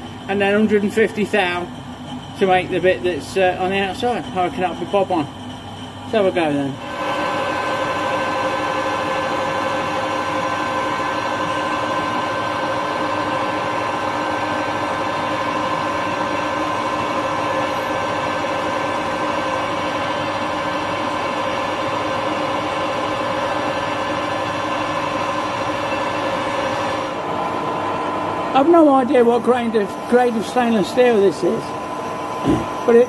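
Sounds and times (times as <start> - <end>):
lathe whining: 0.0 - 33.0.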